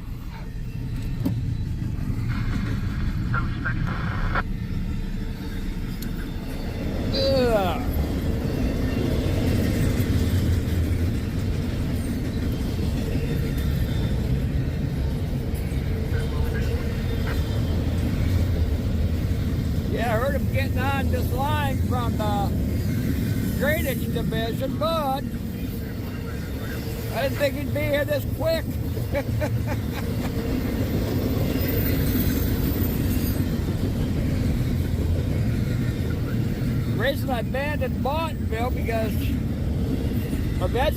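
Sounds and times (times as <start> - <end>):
train wheels rumbling on rails: 0.0 - 3.7, 4.4 - 40.9.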